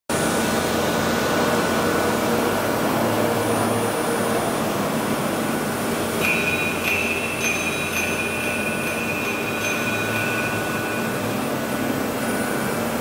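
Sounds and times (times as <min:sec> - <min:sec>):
machine equipment whirring hum: 0:00.1 - 0:13.0.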